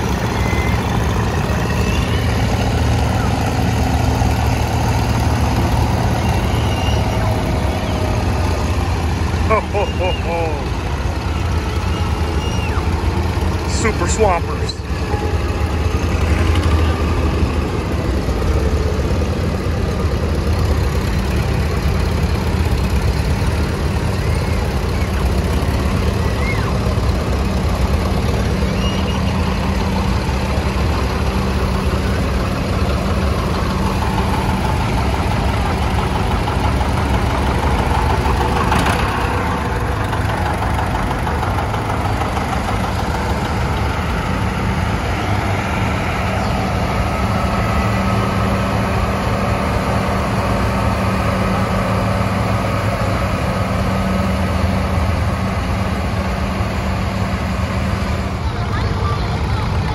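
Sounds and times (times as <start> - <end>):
tractor engines droning: 0.0 - 59.9.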